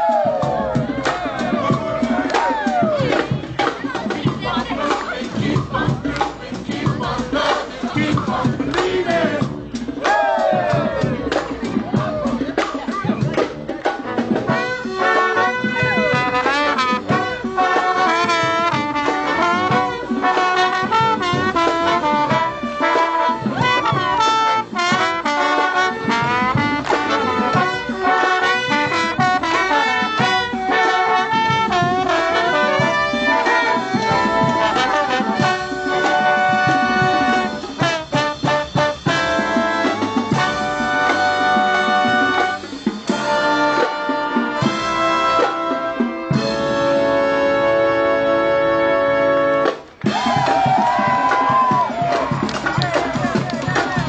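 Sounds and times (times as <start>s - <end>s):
brass band playing jazz: 0.0s - 54.0s.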